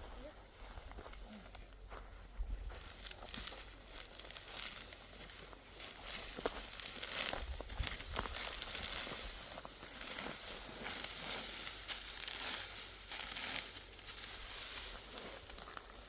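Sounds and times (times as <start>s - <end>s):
dry wheat stalks rustling: 0.0s - 16.0s.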